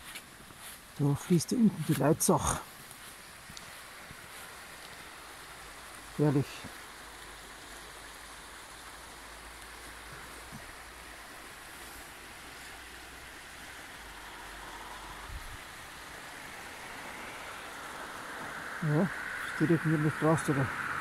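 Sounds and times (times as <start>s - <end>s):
river rushing over gravel: 0.0s - 21.0s.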